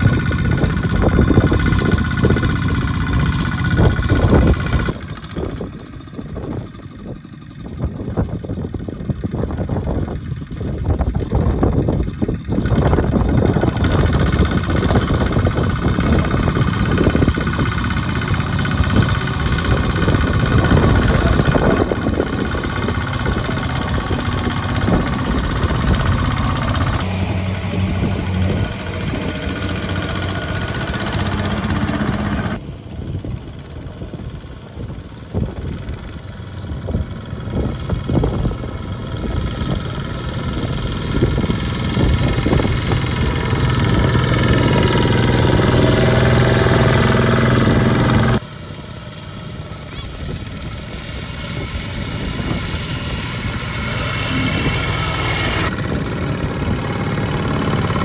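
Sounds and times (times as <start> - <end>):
diesel engines chugging under load: 0.0 - 58.0.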